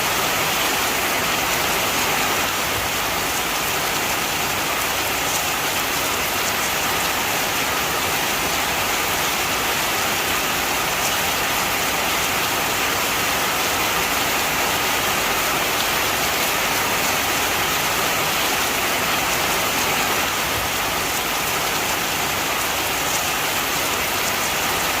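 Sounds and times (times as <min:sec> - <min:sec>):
heavy rain falling: 0:00.0 - 0:25.0
raindrops pattering on surfaces: 0:00.1 - 0:25.0.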